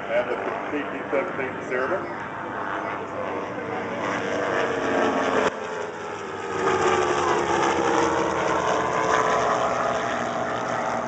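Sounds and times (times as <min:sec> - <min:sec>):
propeller airplane flying past: 0:00.0 - 0:11.0.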